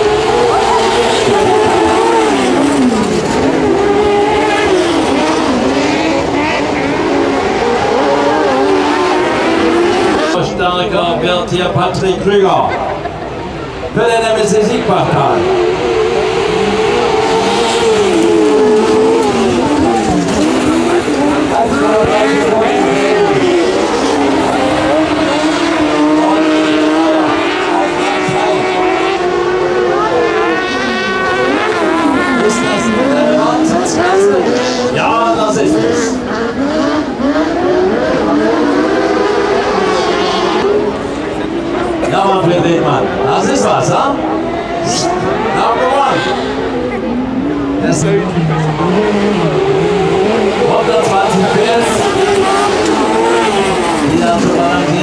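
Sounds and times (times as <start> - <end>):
buggy engines revving: 0.0 - 55.0.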